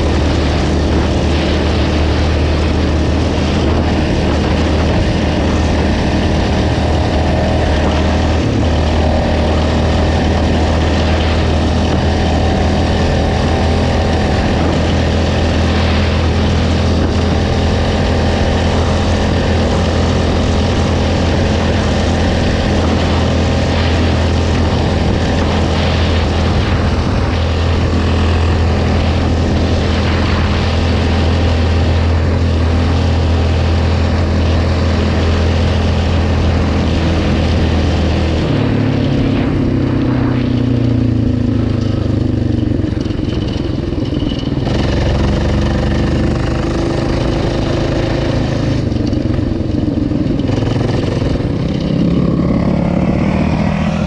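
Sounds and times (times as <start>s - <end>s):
atv engine running: 0.0s - 54.0s
wind noise: 0.0s - 54.0s.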